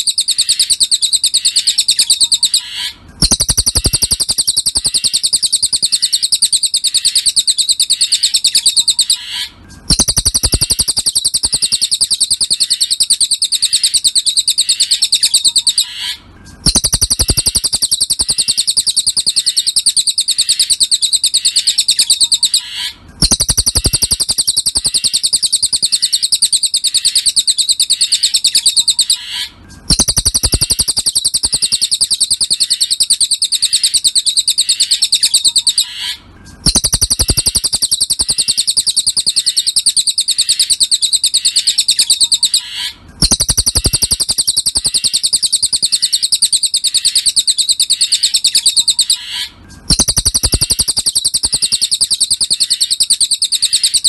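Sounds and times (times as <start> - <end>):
songbird trilling: 0.0 - 54.0.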